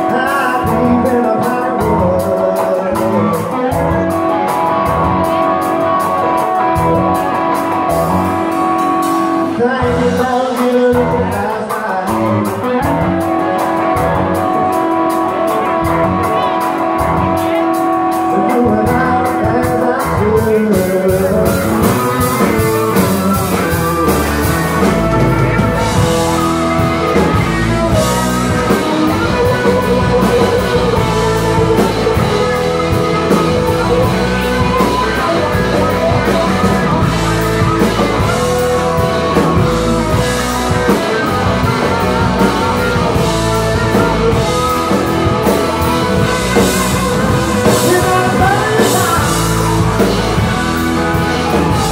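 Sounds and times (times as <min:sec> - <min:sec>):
bass guitar: 0:00.0 - 0:51.9
drum kit: 0:00.0 - 0:51.9
electric guitars: 0:00.0 - 0:51.9.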